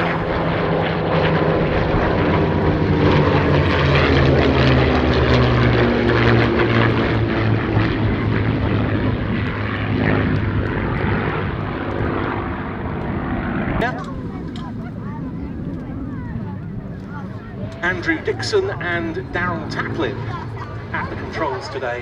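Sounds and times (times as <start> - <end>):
propeller planes flying past: 0.0 - 22.0.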